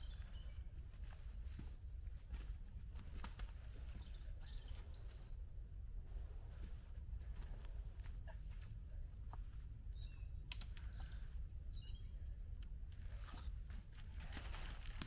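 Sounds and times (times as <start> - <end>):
birds chirping: 0.0 - 13.7
steady low rumble: 0.0 - 13.8.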